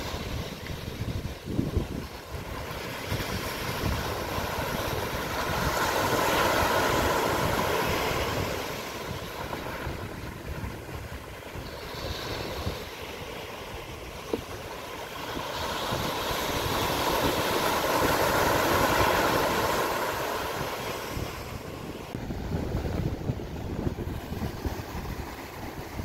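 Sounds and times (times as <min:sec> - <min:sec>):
wave breaking on sand: 0:00.0 - 0:26.0
wind buffeting microphone: 0:00.0 - 0:26.0.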